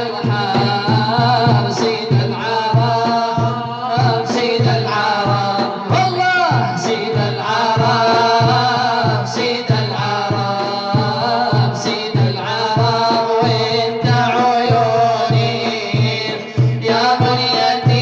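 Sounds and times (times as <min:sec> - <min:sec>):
voices singing a melody: 0:00.0 - 0:18.0.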